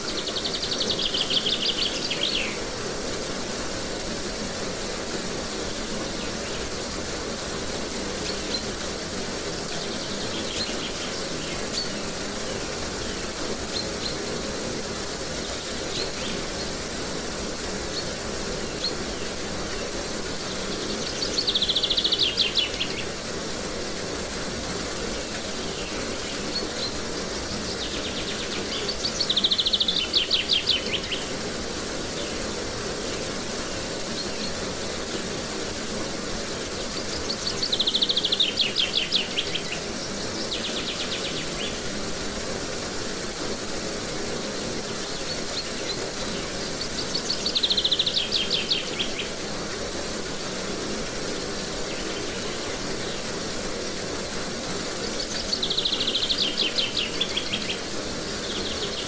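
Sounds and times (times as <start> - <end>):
water rushing down cascade: 0.0 - 59.0.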